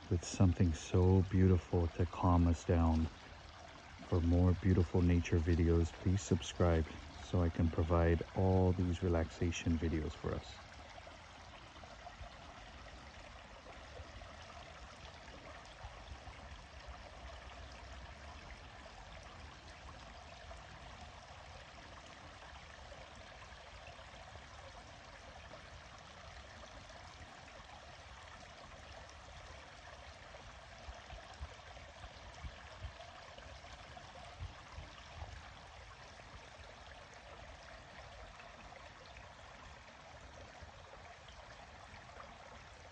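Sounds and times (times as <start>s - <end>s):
stream trickling: 0.0s - 42.9s.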